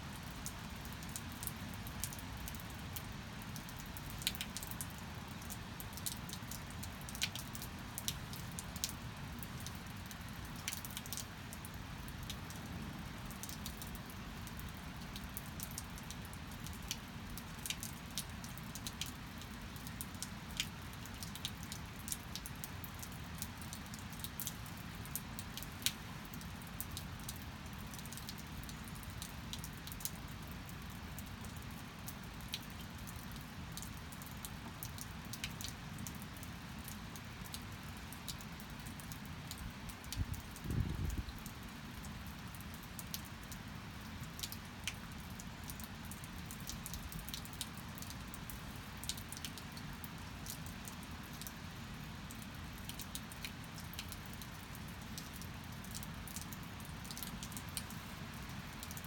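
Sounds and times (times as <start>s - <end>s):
steady rain falling: 0.0s - 59.0s
raindrops clicking on surface: 0.1s - 59.0s.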